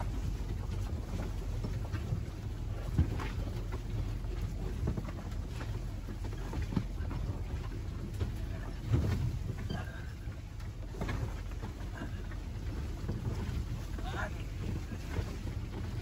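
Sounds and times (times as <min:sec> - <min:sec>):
vehicle engine and road rumble: 0:00.0 - 0:16.0
vehicle knocks and rattles: 0:00.0 - 0:16.0.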